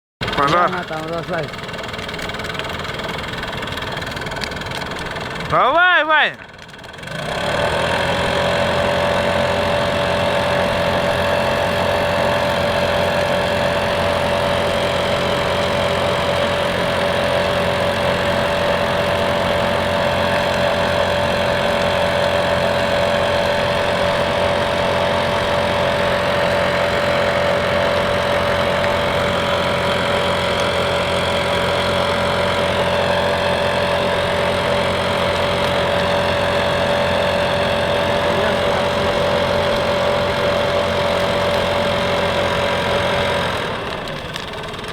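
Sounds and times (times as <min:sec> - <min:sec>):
constant whine: 0:00.2 - 0:44.9
small petrol engine running: 0:00.2 - 0:44.9.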